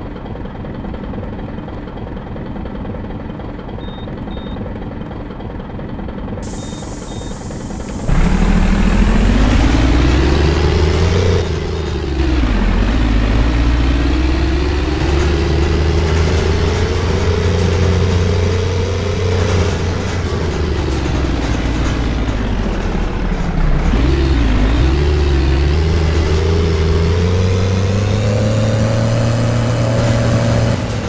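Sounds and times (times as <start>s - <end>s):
bus diesel engine accelerating: 0.0s - 31.0s.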